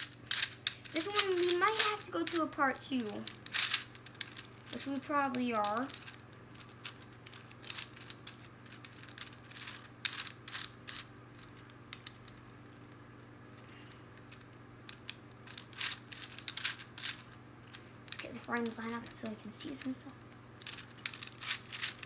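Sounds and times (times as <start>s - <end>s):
plastic puzzle clicking: 0.0s - 12.4s, 14.2s - 19.9s, 20.6s - 22.0s.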